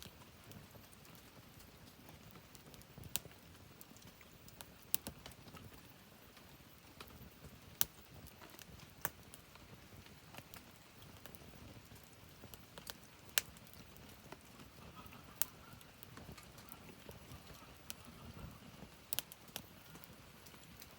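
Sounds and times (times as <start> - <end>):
fire popping: 0.0 - 20.9
wood fire crackling: 0.0 - 20.9.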